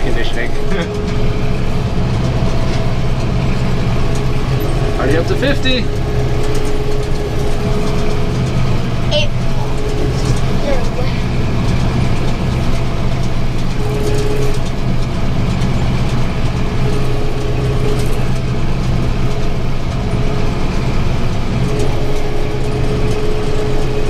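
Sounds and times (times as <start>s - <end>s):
baler machinery clattering: 0.0s - 24.0s
thin whine: 0.0s - 24.0s
tractor engine under load: 0.0s - 24.0s.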